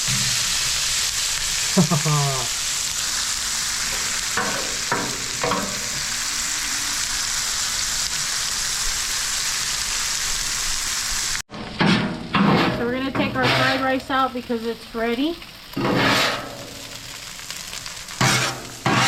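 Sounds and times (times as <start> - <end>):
food sizzling on griddle: 0.0 - 19.0.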